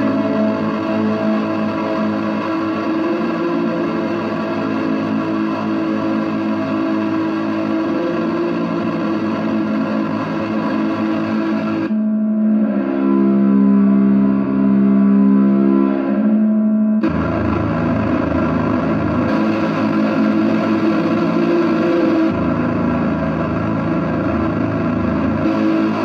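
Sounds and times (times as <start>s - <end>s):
distorted guitar drone: 0.0s - 26.0s.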